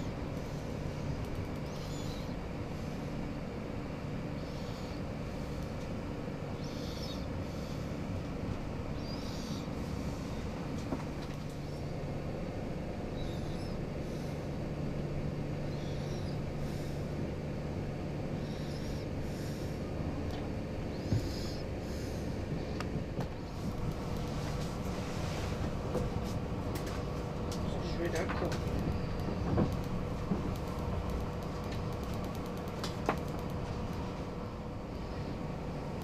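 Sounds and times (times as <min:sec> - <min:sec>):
train rumbling: 0:00.0 - 0:02.2, 0:04.4 - 0:36.0.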